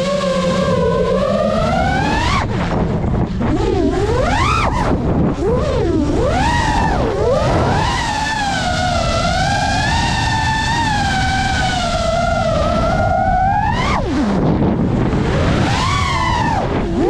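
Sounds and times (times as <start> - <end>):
quadcopter motors whining: 0.0 - 17.0
rushing wind and prop wash: 0.0 - 17.0.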